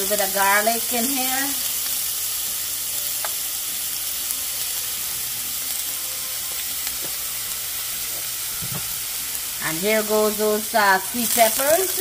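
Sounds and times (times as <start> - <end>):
onions sizzling in frying pan: 0.0 - 12.0.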